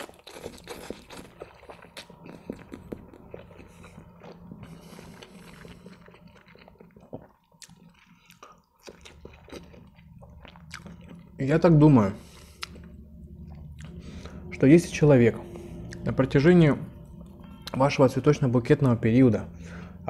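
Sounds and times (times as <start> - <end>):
man chewing food: 0.0 - 17.9.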